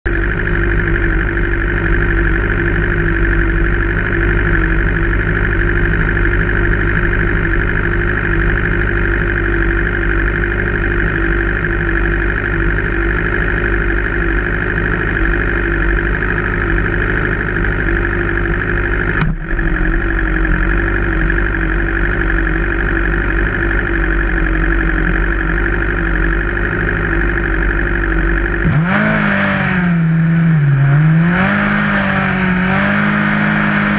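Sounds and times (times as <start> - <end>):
race car engine idling and revving: 0.0 - 33.9.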